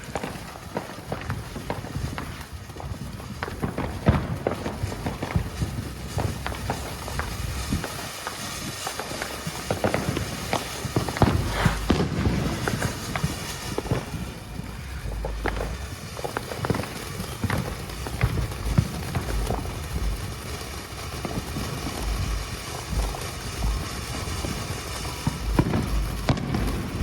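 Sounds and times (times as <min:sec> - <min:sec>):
firework fountain hissing: 0:00.0 - 0:27.0
sharp pops and crackles: 0:00.0 - 0:27.0.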